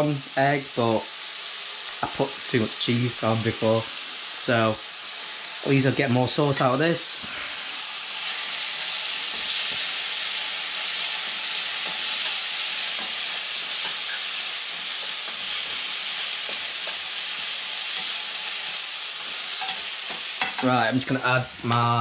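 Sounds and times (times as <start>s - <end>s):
bacon sizzling in a pan: 0.0s - 22.0s.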